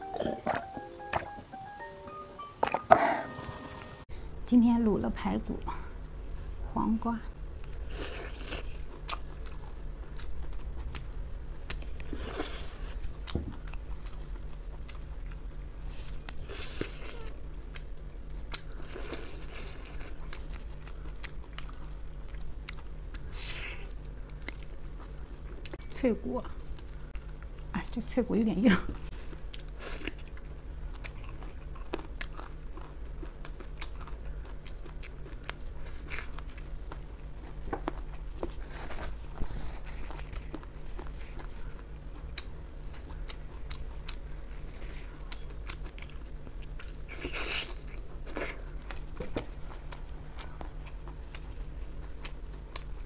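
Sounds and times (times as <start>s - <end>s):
chewing and crunching: 7.6s - 27.7s, 28.9s - 53.0s.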